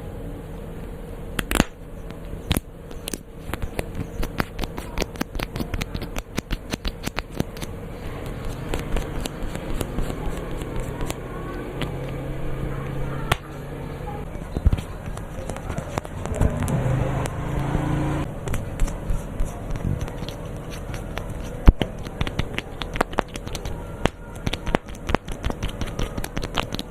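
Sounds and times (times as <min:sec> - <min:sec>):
faint steady hum: 0:00.0 - 0:26.9
sharp clicks and taps: 0:01.4 - 0:12.2, 0:14.3 - 0:17.4, 0:18.4 - 0:26.9.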